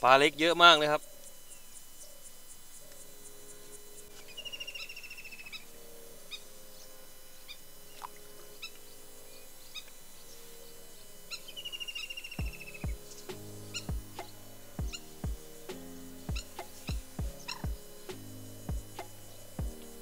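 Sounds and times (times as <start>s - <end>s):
small birds singing: 0.0s - 20.0s.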